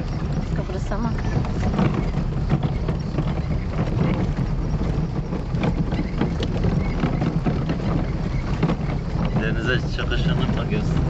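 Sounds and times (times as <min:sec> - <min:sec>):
car rumbling on road: 0:00.0 - 0:11.0
small knocks and rattles: 0:00.0 - 0:11.0.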